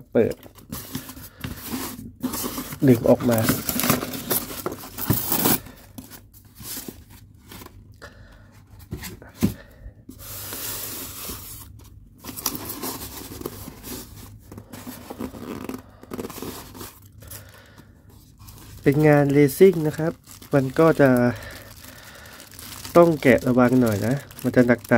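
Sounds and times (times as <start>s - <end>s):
plastic wrap rustling: 0.2s - 8.0s, 10.2s - 24.9s.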